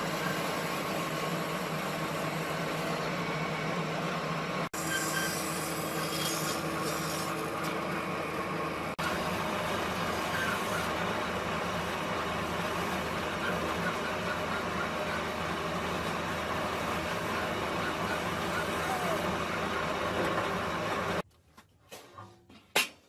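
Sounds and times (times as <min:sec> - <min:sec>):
machine running with hum: 0:00.0 - 0:21.2.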